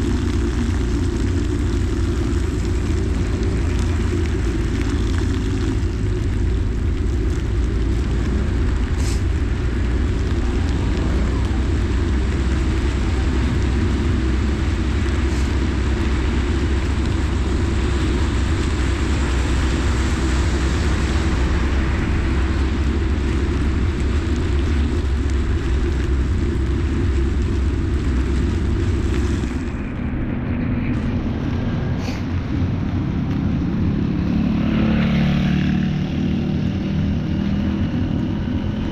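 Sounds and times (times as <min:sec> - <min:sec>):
rain and wet tyres hissing: 0:00.0 - 0:38.9
wind rumble on microphone: 0:00.0 - 0:38.9.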